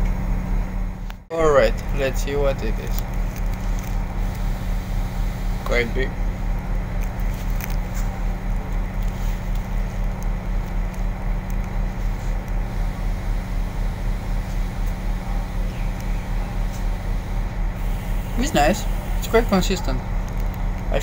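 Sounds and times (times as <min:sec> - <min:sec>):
engine drone inside vehicle: 0:00.0 - 0:21.0.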